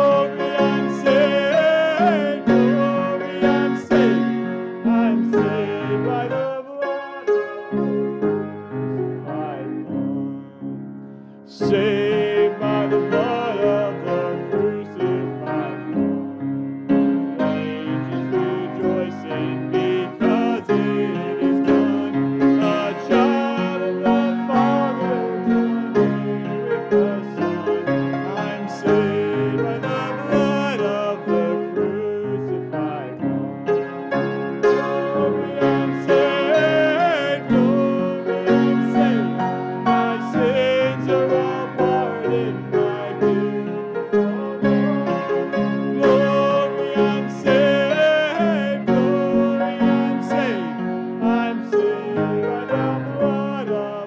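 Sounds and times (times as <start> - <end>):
congregation singing a hymn: 0.0 - 10.7, 11.5 - 16.4, 17.0 - 54.0
grand piano accompaniment: 0.0 - 54.0.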